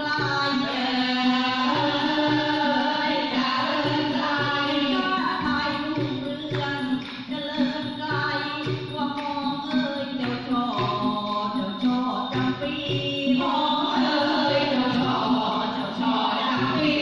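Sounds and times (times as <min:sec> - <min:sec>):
sharp percussion strokes: 0:00.0 - 0:17.0
voices singing long notes: 0:00.0 - 0:17.0.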